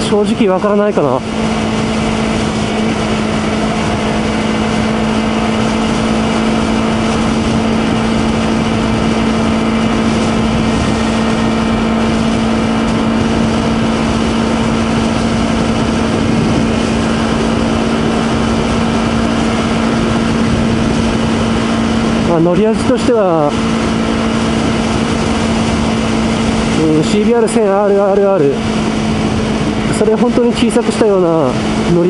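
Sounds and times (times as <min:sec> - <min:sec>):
motorcycle engine cruising: 0:00.0 - 0:32.0
wind and road noise: 0:00.0 - 0:32.0.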